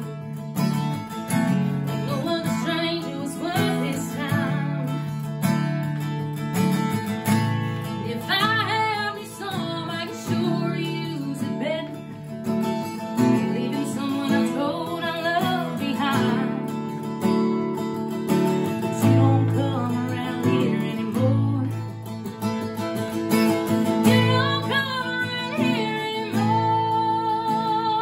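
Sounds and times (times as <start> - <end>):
strummed acoustic guitar: 0.0 - 28.0
woman singing country song: 0.0 - 28.0.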